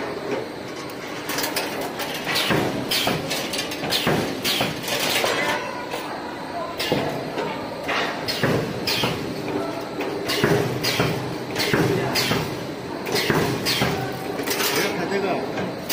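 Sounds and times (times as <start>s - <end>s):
machine whir and clack: 0.0s - 6.1s, 6.7s - 15.9s.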